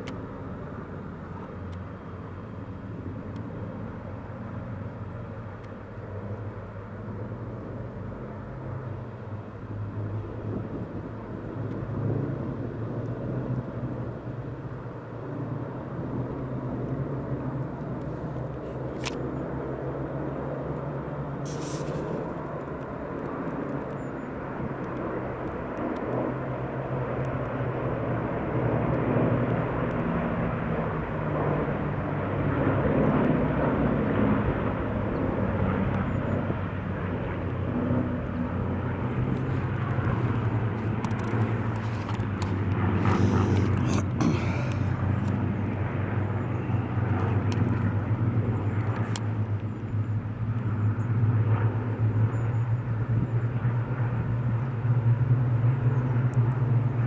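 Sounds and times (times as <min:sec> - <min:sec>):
aircraft engines droning overhead: 0:00.0 - 0:57.0.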